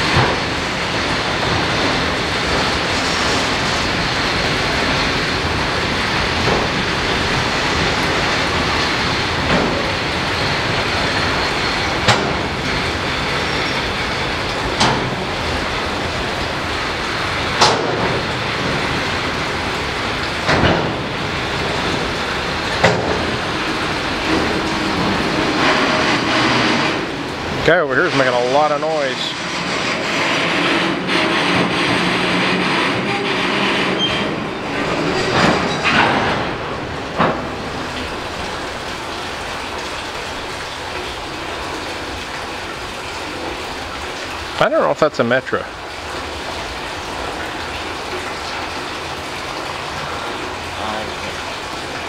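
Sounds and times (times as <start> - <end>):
train rumbling past: 0.0 - 52.0.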